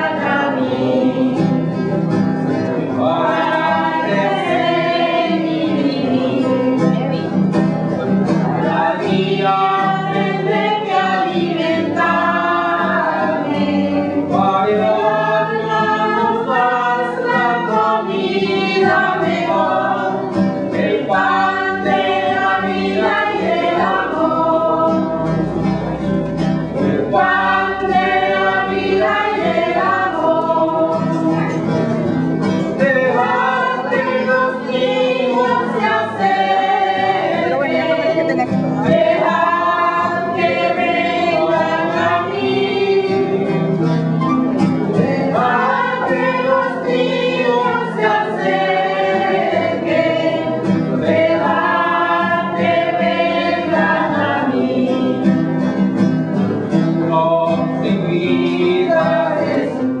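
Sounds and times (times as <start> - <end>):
choir singing a hymn: 0.0 - 60.0
instrumental accompaniment: 0.0 - 60.0.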